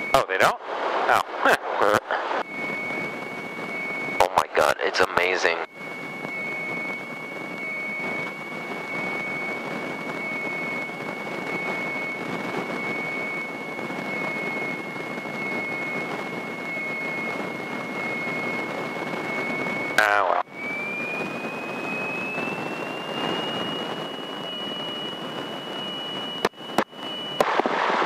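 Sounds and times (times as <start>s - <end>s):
airplane cabin noise hiss: 0.0s - 28.0s
high-pitched whine: 0.0s - 28.0s.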